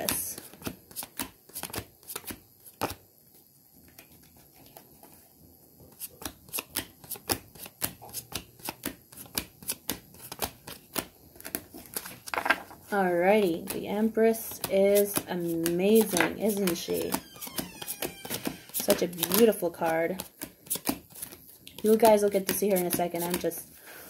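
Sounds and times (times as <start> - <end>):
cards being shuffled: 0.0 - 5.2, 5.9 - 23.7.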